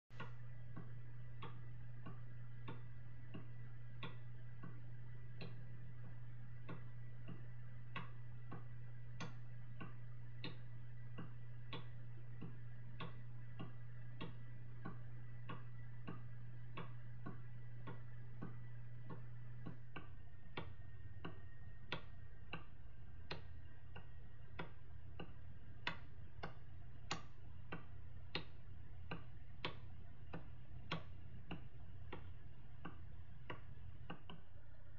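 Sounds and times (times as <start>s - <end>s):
pendulum clock ticking: 0.1s - 34.9s
steady low hum: 0.1s - 34.9s.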